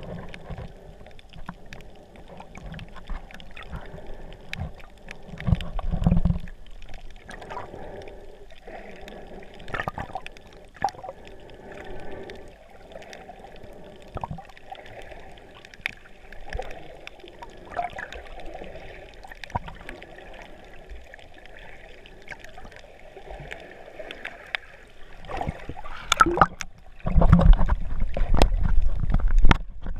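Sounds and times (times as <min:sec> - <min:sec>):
muffled underwater gurgling: 0:00.0 - 0:29.9.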